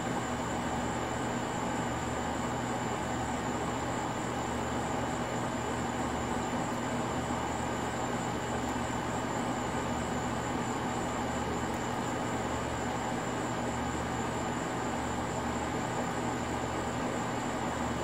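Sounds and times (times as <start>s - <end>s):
continuous low hum: 0.0s - 18.0s.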